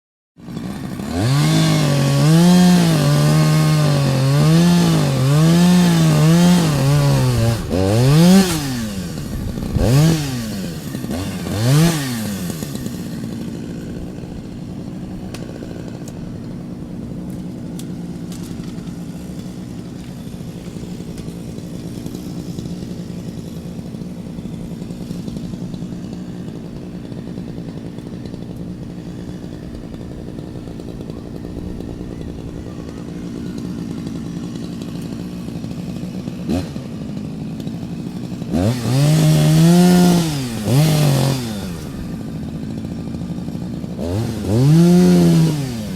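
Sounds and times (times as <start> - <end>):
chainsaw engine revving and idling: 0.4 - 45.9.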